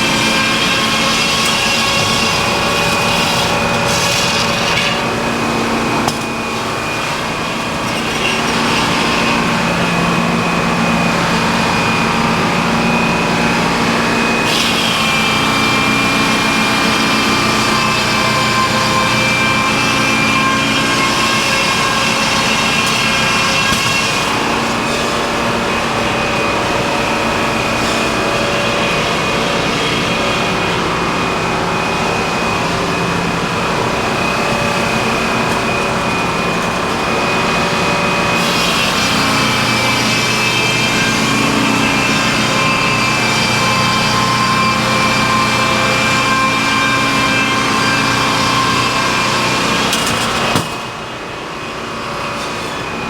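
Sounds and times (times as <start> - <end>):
sawmill sawing log: 0.0 - 53.0.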